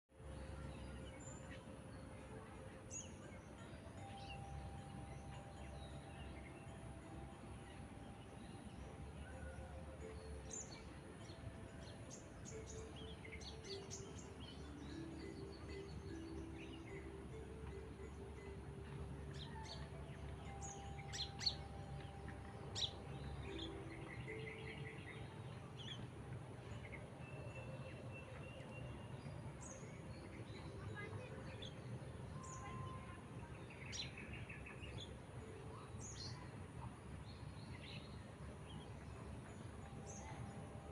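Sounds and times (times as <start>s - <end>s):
birds chirping: 0.2s - 40.9s.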